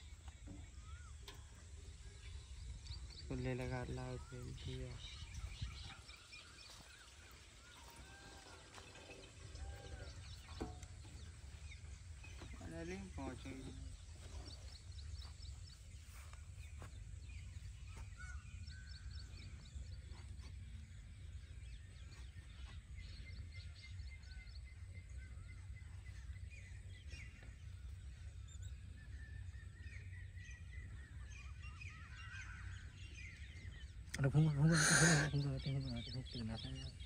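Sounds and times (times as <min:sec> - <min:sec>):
birds chirping and calling: 0:00.0 - 0:37.0.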